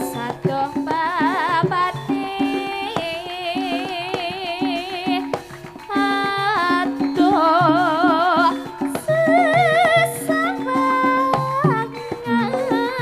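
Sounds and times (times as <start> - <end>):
instrumental accompaniment: 0.0 - 13.0
person singing with vibrato: 0.0 - 13.0.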